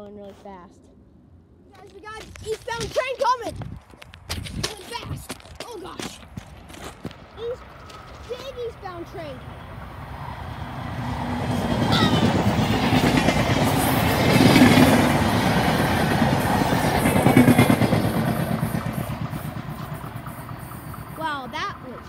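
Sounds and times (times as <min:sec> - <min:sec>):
train passing with wheel clatter: 0:01.7 - 0:03.6, 0:04.7 - 0:22.0.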